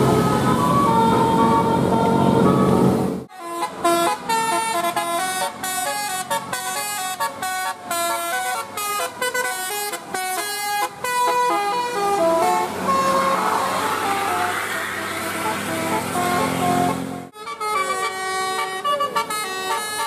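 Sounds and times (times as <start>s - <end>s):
multi-tone vehicle horn tune: 0.0s - 20.0s.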